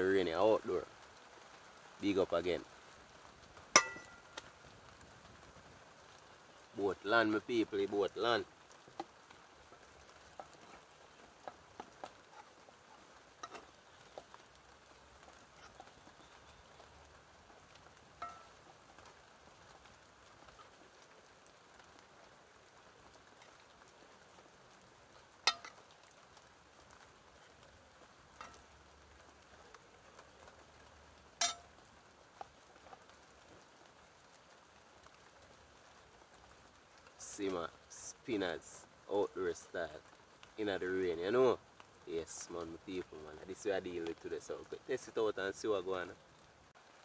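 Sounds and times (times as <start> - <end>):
soft steady rain: 0.0 - 47.0.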